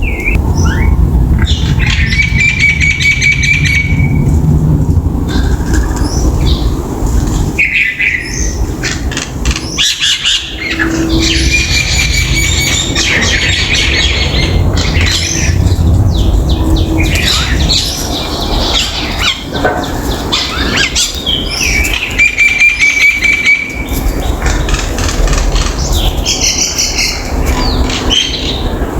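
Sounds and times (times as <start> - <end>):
mynas calling: 0.0 - 4.4, 7.6 - 28.9
low background rumble: 0.0 - 28.9.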